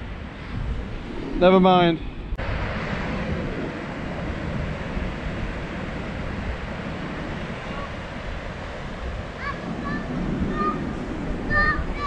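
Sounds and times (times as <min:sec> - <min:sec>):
ocean surf breaking on beach: 0:00.0 - 0:12.0
wind rumbling on microphone: 0:00.0 - 0:12.0.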